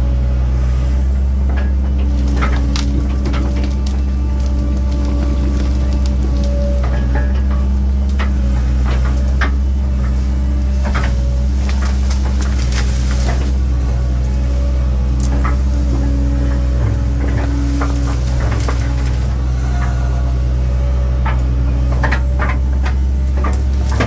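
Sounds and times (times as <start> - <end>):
excavator diesel engine running: 0.0 - 24.0
short clunks and knocks: 1.4 - 24.0.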